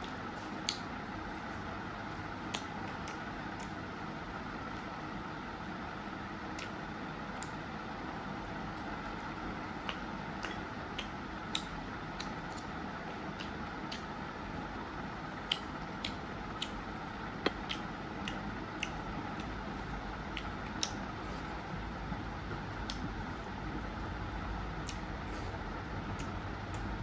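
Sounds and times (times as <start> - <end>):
eating clicks and smacks: 0.0 - 4.0, 6.3 - 7.8, 8.6 - 27.0
low background noise: 0.0 - 27.0.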